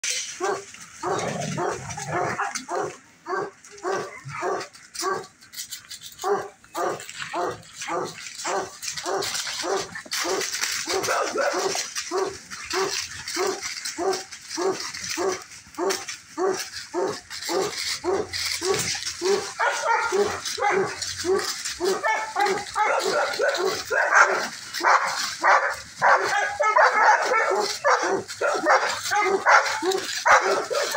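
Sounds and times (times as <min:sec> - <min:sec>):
dog barking: 0:00.4 - 0:05.3, 0:06.2 - 0:30.9.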